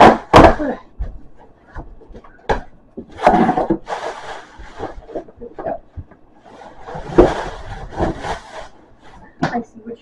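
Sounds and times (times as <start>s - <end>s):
objects rustling and rubbing: 0.9s - 9.8s.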